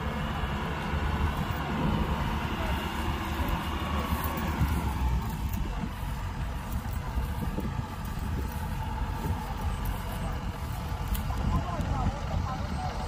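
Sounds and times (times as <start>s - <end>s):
combine harvester engine rumble: 0.0s - 13.0s.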